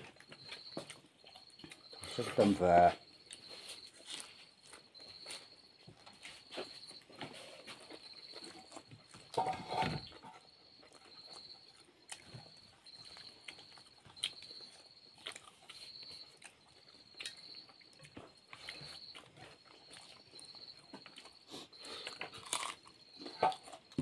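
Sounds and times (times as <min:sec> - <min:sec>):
cricket chirping: 0:00.0 - 0:24.0
soft chewing and smacking: 0:00.0 - 0:24.0.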